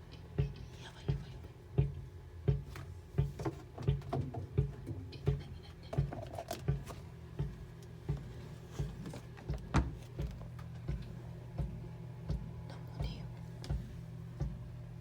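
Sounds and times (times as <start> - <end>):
dull low thumps: 0.3 - 6.1, 6.7 - 15.0.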